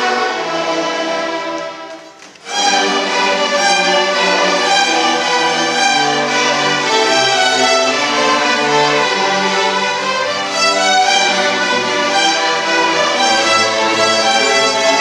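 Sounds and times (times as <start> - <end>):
violins bowing sustained notes: 0.0 - 15.0.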